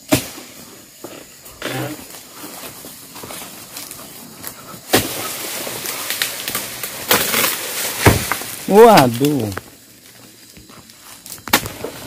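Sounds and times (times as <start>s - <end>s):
leaves rustling and crashing down: 1.3s - 12.0s
sickle cutting fronds crack: 1.6s - 12.0s.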